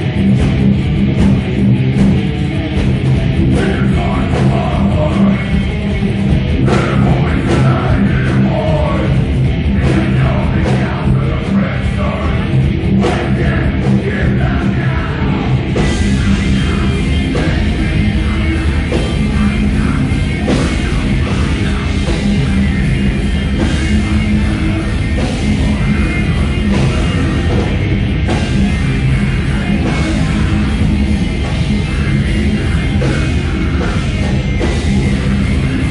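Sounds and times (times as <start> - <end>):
heavy metal band playing live: 0.0 - 35.9.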